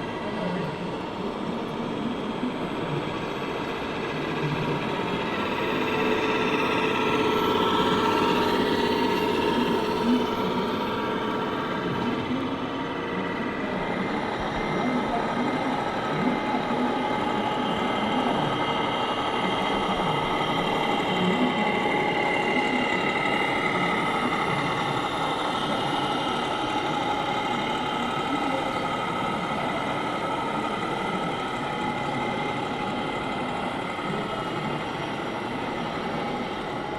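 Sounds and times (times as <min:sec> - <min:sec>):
crowd murmur: 0:00.0 - 0:36.9
model truck motor whine: 0:00.0 - 0:36.9.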